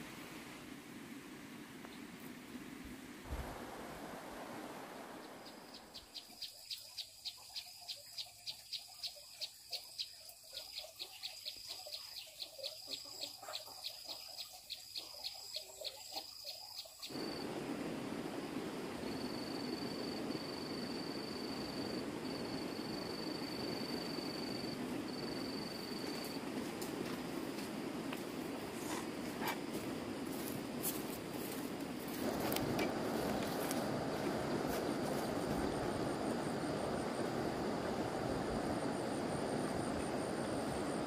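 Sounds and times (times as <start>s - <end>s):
steady hiss: 0.0s - 11.7s, 16.5s - 41.0s.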